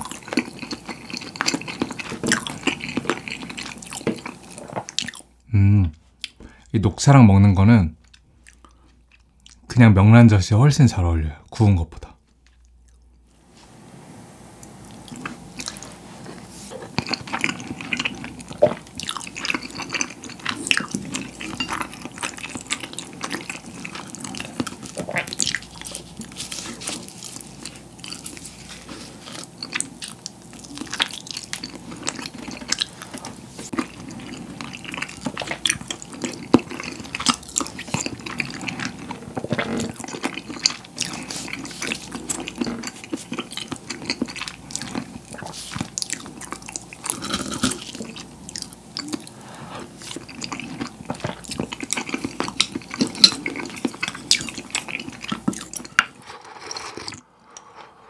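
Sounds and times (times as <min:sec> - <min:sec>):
chewing and swallowing: 0:00.0 - 0:05.4, 0:08.0 - 0:09.7, 0:12.4 - 0:13.3, 0:14.5 - 0:57.7.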